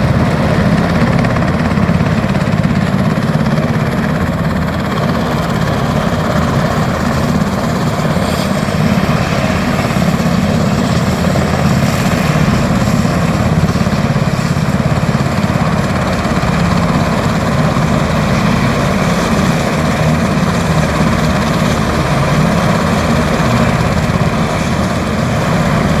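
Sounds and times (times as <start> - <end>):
helicopter rotor and engine noise: 0.0 - 26.0.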